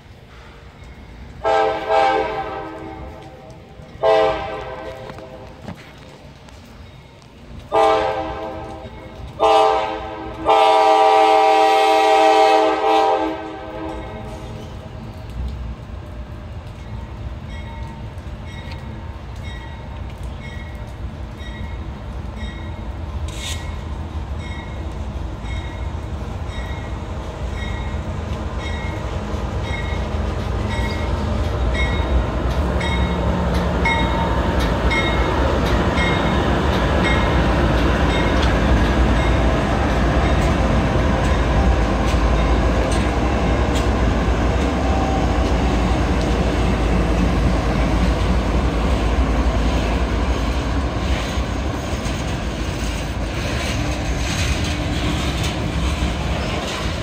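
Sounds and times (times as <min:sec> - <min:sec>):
diesel locomotive engines: 0:00.0 - 0:57.0
train wheels on rail: 0:00.0 - 0:57.0.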